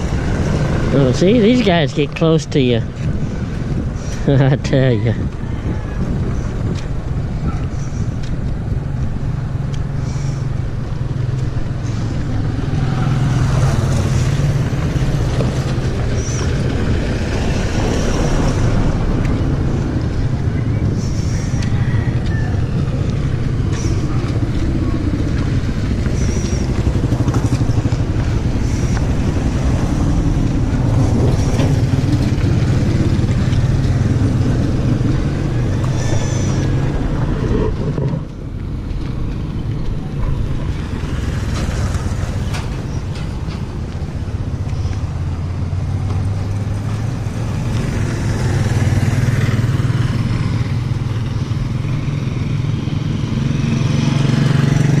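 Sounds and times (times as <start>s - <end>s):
motorcycle engines passing: 0.0s - 55.0s.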